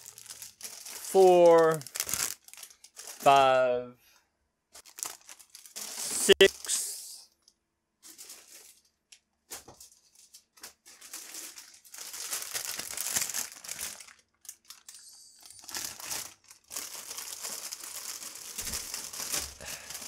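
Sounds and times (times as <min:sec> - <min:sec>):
plastic bags crinkling: 0:00.0 - 0:03.6, 0:04.8 - 0:06.9, 0:08.0 - 0:20.0.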